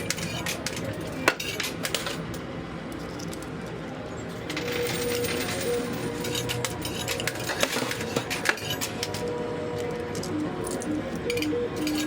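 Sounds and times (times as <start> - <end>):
coins clinking in coin pusher: 0.0 - 12.0.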